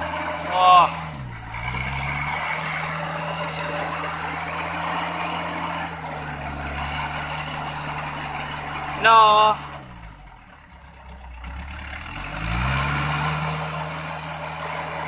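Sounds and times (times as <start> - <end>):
pickup truck engine revving hard: 0.0 - 10.2, 11.2 - 15.0.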